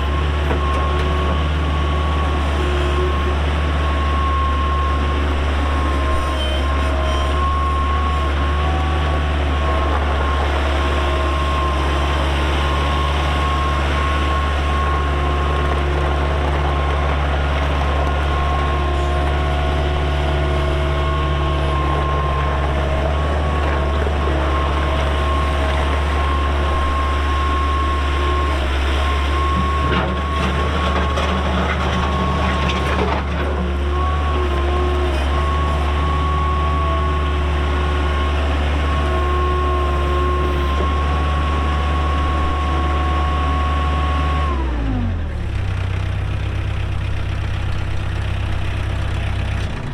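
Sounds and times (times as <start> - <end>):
diesel engine whining: 0.0 - 49.9.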